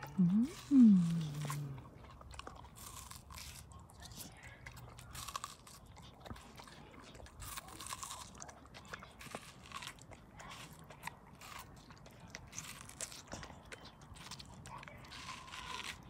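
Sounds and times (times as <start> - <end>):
dog crunching watermelon: 0.0 - 16.0.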